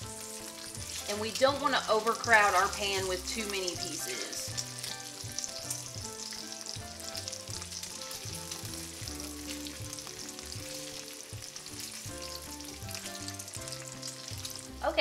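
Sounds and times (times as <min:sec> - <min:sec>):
bacon sizzling in a skillet: 0:00.0 - 0:15.0
soft background music: 0:00.0 - 0:15.0.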